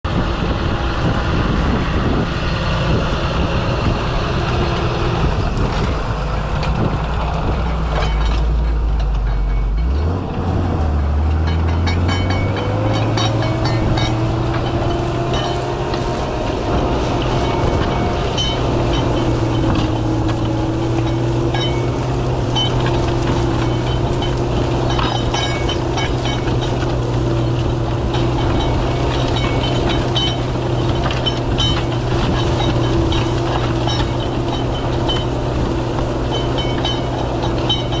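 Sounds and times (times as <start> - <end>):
tractor diesel engine droning: 0.0 - 38.0
metallic rattles and clicks: 4.2 - 38.0.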